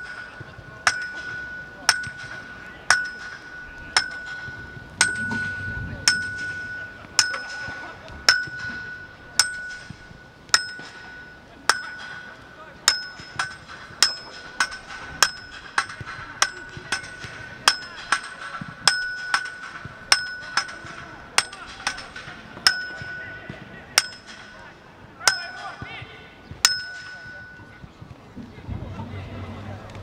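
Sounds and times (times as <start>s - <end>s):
metal being struck: 0.0s - 25.8s.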